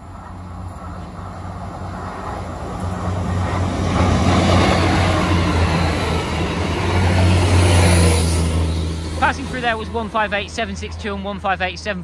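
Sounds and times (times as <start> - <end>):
diesel train engine drone: 0.0 - 12.0
wheel and rail noise: 0.0 - 12.0.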